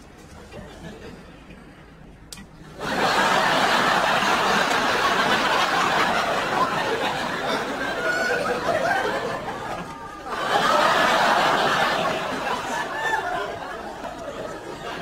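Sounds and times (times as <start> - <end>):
audience laughter: 2.7 - 15.0.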